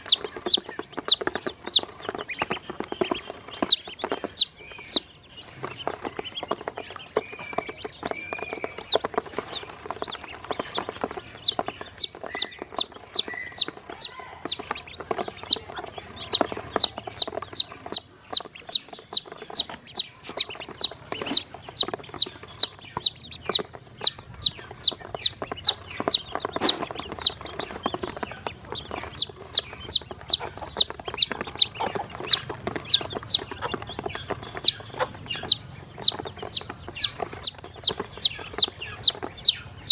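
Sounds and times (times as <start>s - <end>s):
beaks pecking on plastic basin: 0.0s - 39.9s
chicks and ducklings peeping: 0.0s - 39.9s
lower bird calls: 0.0s - 39.9s.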